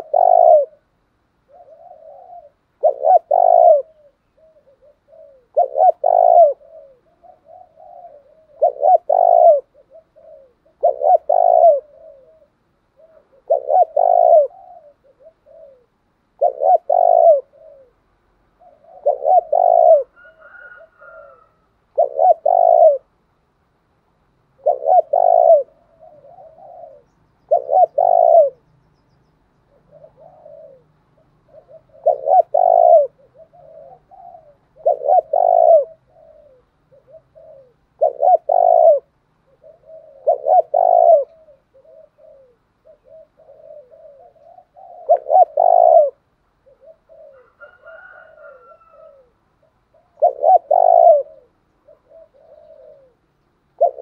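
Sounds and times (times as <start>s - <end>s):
dove cooing: 0.0s - 23.3s, 24.4s - 54.0s.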